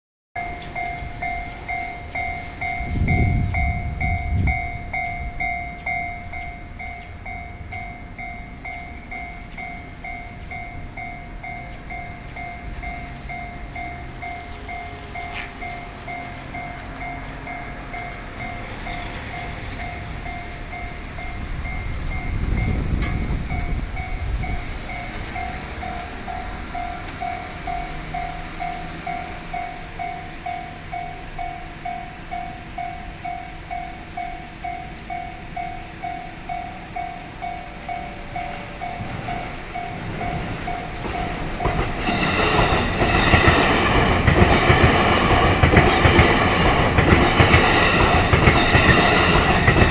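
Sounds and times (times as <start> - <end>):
level-crossing bell ringing: 0.4 - 49.9
train passing: 0.4 - 49.9.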